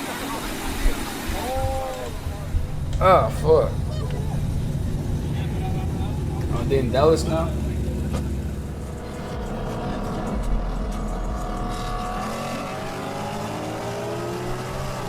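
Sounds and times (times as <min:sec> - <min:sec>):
car engines accelerating hard: 0:00.0 - 0:15.0.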